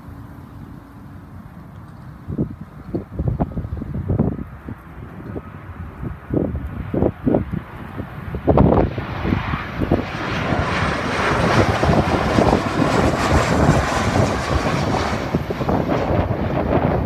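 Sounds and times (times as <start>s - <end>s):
wind buffeting microphone: 1.8s - 17.0s
jet engines roaring: 2.6s - 17.0s.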